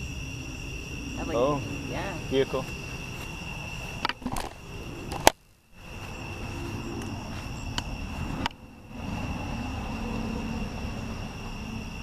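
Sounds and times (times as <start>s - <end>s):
crickets chirping: 0.0s - 12.0s
distant car rumble: 0.0s - 12.0s.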